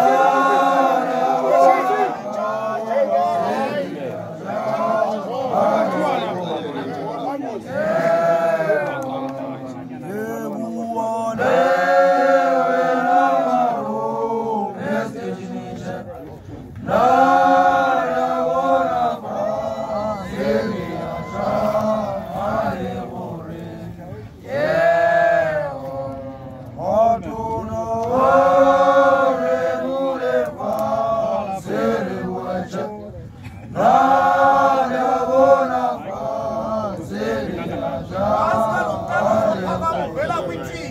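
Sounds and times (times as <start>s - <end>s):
group of voices chanting: 0.0s - 16.1s, 16.8s - 33.1s, 33.7s - 40.2s.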